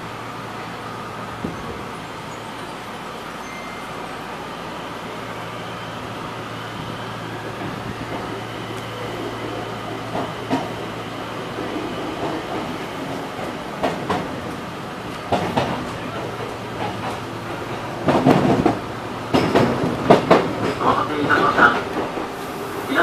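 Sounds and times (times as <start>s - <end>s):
train hum and rising whine: 0.0s - 23.0s.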